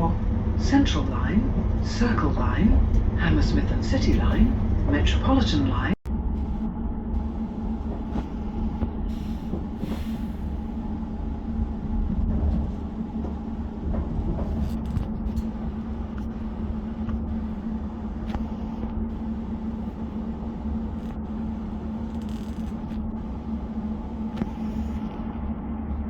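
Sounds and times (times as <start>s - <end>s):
constant hum: 0.0s - 26.0s
train rumble: 0.0s - 26.0s.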